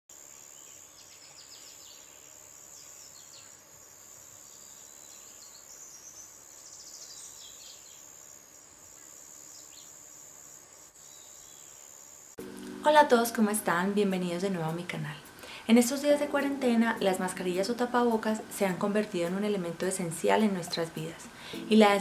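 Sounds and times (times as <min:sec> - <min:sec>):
high-pitched insect trill: 0:00.1 - 0:22.0.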